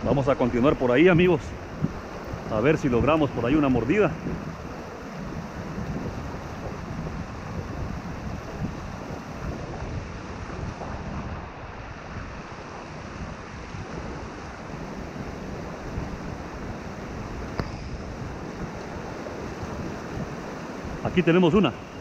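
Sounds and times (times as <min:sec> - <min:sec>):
river rapids rushing: 0:00.0 - 0:22.0
wind rumbling on microphone: 0:00.0 - 0:22.0.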